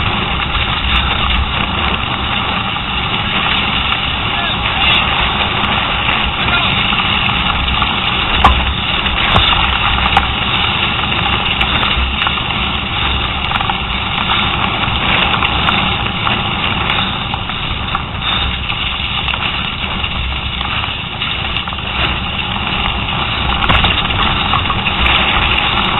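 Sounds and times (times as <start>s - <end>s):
bike rattling: 0.0s - 25.9s
wind buffeting microphone: 0.0s - 25.9s.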